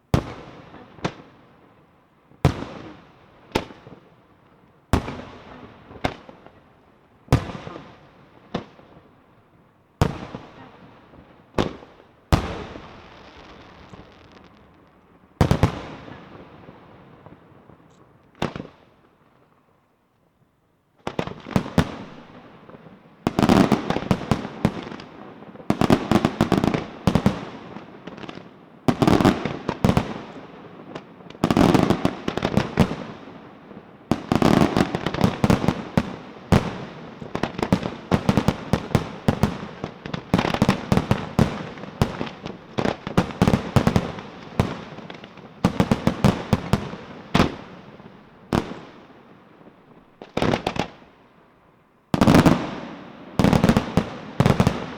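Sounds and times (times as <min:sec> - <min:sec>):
fireworks bangs and crackling: 0:00.0 - 0:19.5, 0:21.0 - 0:51.3, 0:52.1 - 0:54.9.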